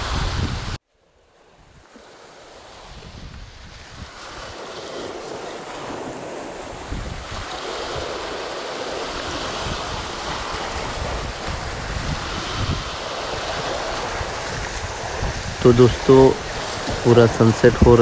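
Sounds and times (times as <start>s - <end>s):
wind buffeting microphone: 0.0s - 0.8s, 1.5s - 18.0s
sea waves breaking on rocks: 1.4s - 18.0s.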